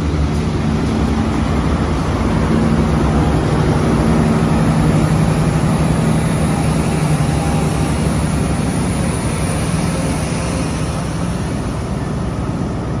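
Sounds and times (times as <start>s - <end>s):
diesel train engine running: 0.0s - 13.0s.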